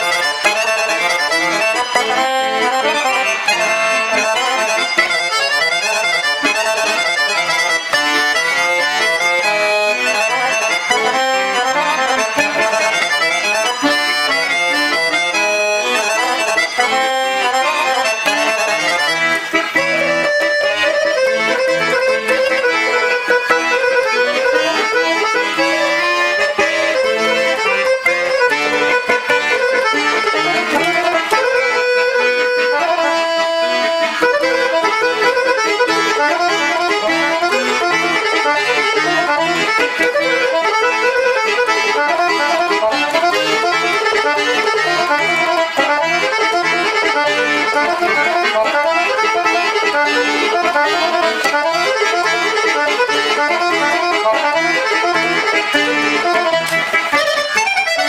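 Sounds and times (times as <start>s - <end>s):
accordion playing a melody: 0.0s - 58.0s.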